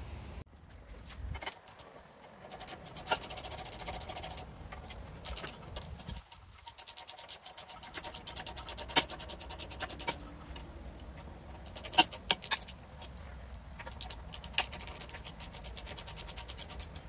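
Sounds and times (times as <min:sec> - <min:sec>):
ratchet wrench clicking: 0:01.4 - 0:13.2, 0:13.8 - 0:17.0.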